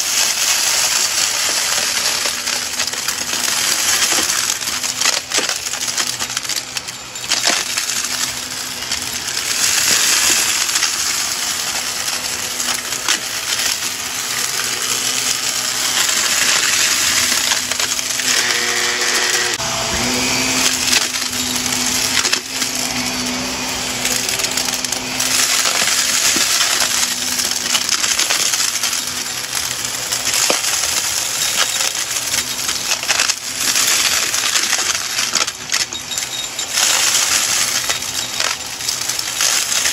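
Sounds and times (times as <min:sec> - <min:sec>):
beads clattering through vacuum nozzle: 0:00.0 - 0:19.6, 0:20.2 - 0:39.9
upright vacuum running on carpet: 0:00.0 - 0:39.9.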